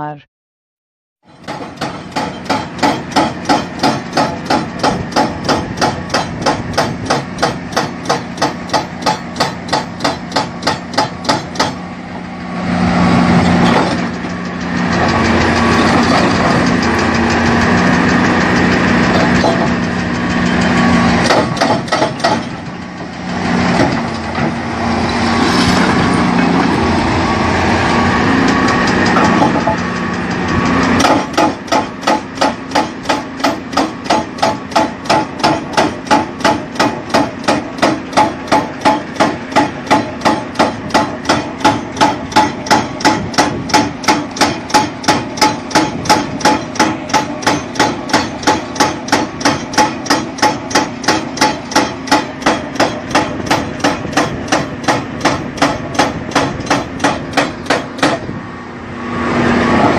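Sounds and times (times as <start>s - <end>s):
hydraulic rock breaker hammering: 1.2s - 12.0s, 13.3s - 27.2s, 28.2s - 58.4s
excavator diesel engine running: 1.2s - 59.9s.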